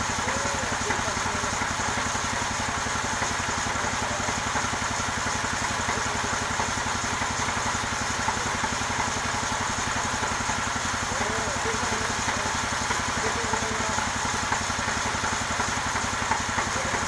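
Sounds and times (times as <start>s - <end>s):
engine idling steadily: 0.0s - 17.0s.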